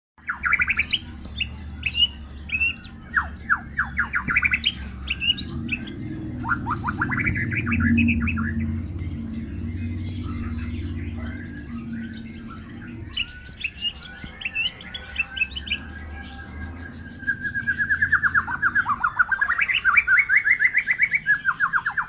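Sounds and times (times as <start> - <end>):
bird singing whistles and chirps: 0.2 - 22.0
steady low hum: 0.5 - 20.9.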